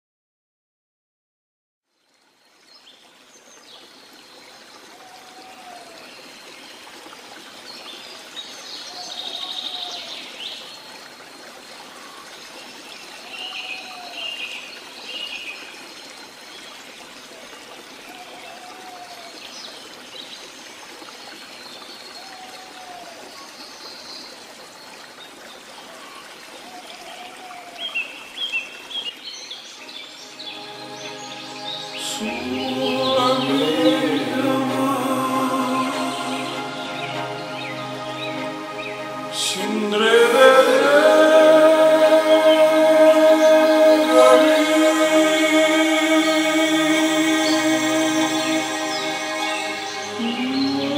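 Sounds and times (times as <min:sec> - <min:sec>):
waterfall and stream rushing: 0:02.8 - 0:50.9.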